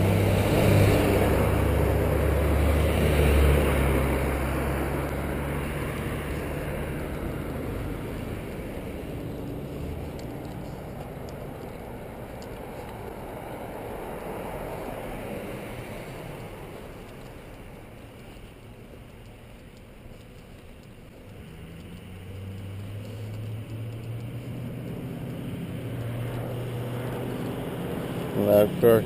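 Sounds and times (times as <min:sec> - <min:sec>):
car tyre and road noise: 0:00.0 - 0:29.0
vehicle low engine drone: 0:00.0 - 0:29.0.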